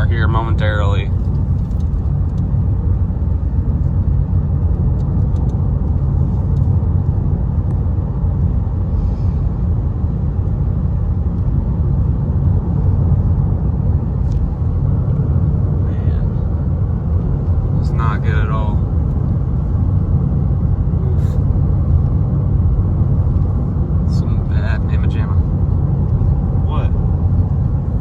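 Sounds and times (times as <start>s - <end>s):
car driving on a highway: 0.0s - 28.0s.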